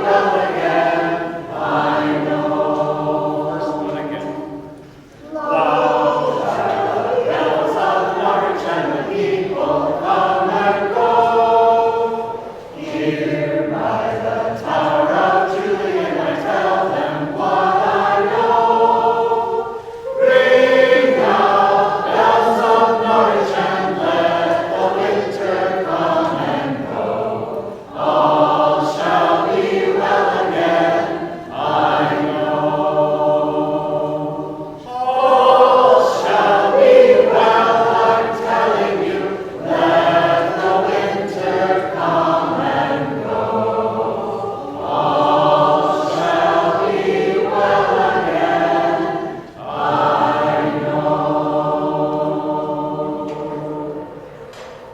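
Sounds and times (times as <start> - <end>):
choir singing in harmony: 0.0 - 54.9.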